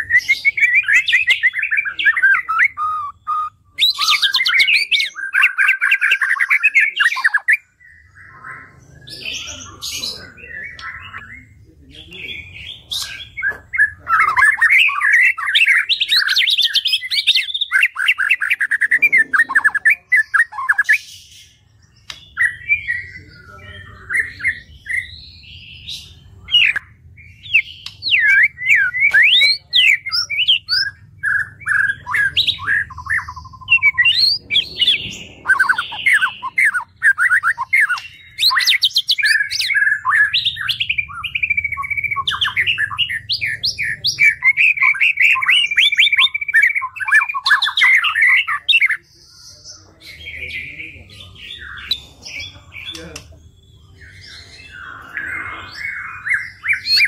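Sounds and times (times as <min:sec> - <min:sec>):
bird singing chattering phrases: 0:00.0 - 0:57.0.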